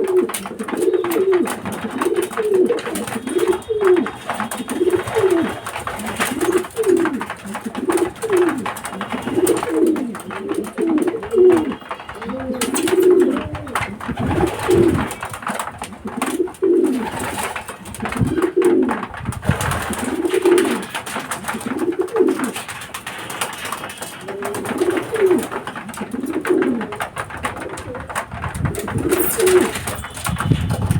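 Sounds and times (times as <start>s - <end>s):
constant rustling: 0.0s - 30.9s
pigeons cooing: 0.0s - 30.9s.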